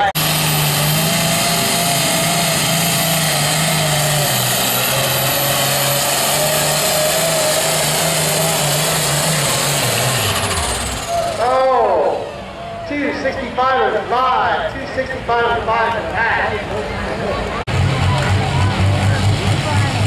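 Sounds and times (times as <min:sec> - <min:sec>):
diesel tractor engine under load: 0:00.0 - 0:12.9, 0:13.5 - 0:20.0.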